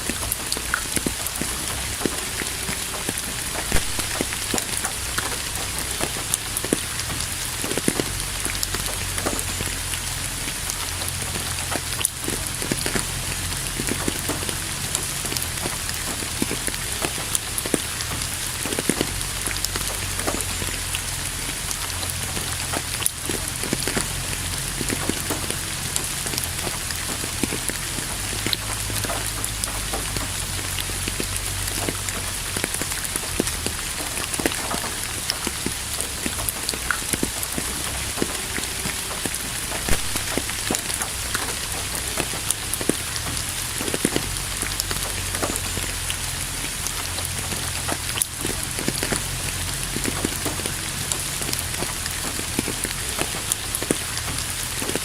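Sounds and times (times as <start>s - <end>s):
rain hissing: 0.0s - 55.0s
raindrops ticking: 0.0s - 55.0s.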